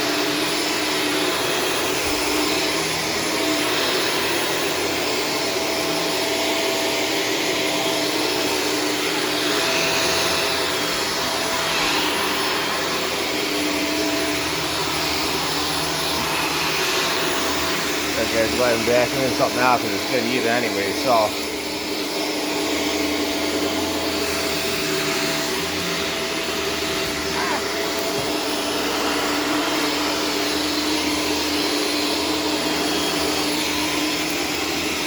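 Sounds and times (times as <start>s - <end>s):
upright vacuum cleaner running: 0.0s - 35.0s.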